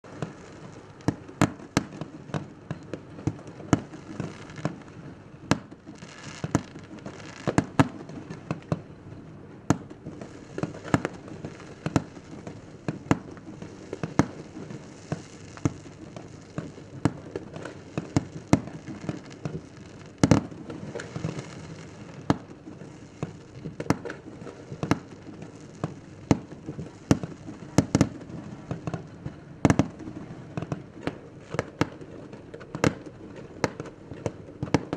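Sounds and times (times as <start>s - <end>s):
fireworks crackling: 0.0s - 34.9s
fireworks banging: 0.1s - 34.9s.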